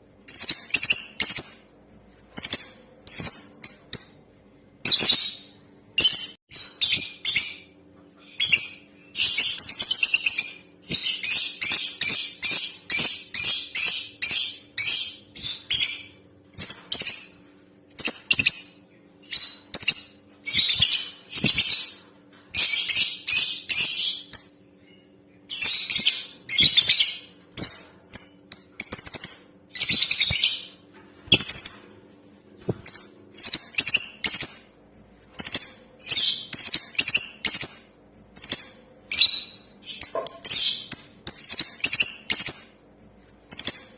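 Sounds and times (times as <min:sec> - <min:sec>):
lovebird chirping: 0:00.3 - 0:01.8, 0:02.4 - 0:32.0, 0:32.7 - 0:34.8, 0:35.4 - 0:42.9.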